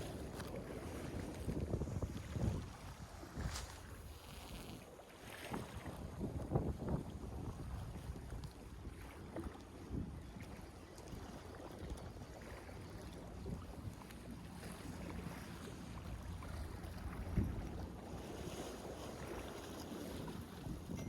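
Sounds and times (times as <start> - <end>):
wind buffeting microphone: 0.0 - 4.8, 5.5 - 21.0.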